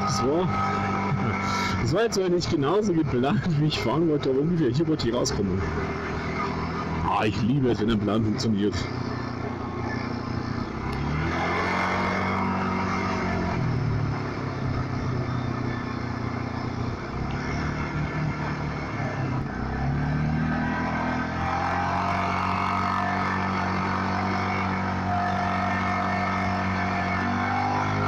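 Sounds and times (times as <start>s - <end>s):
quad bike engine accelerating: 0.0s - 28.0s.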